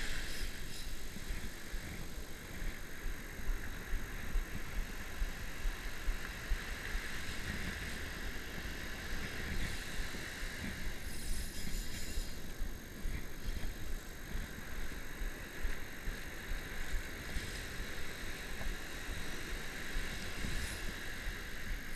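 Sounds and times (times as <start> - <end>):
surf washing over sand: 0.0 - 11.5, 12.3 - 21.9
wind buffeting microphone: 0.0 - 21.9.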